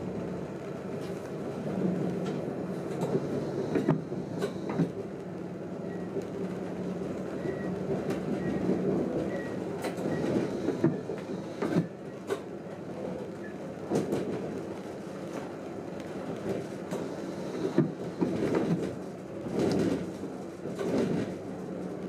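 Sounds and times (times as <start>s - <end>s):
train running rumble and hum: 0.0s - 22.0s.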